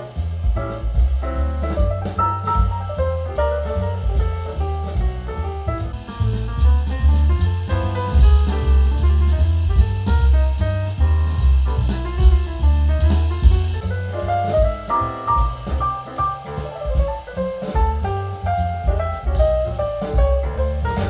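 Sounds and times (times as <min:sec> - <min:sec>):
jazz through loudspeaker: 0:00.0 - 0:21.0.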